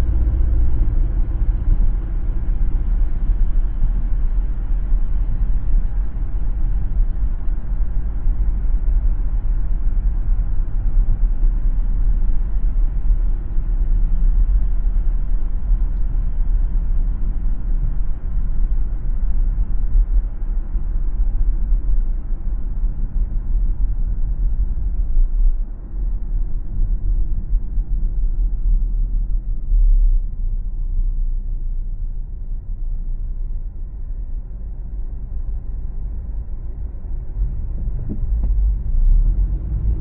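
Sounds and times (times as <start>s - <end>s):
car tyre and engine rumble: 0.0s - 40.0s.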